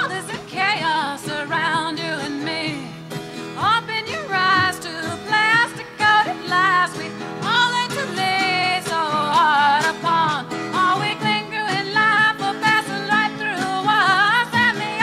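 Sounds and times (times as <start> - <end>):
instrumental backing music: 0.0 - 15.0
woman singing with vibrato: 0.0 - 15.0.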